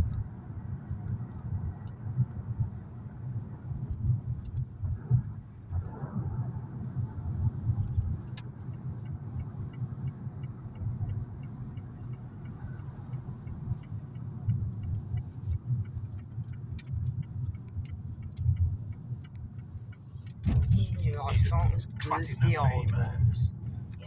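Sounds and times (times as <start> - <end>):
car engine and tyre rumble: 0.0 - 24.0
faint regular ticking: 1.0 - 6.1, 6.8 - 24.0.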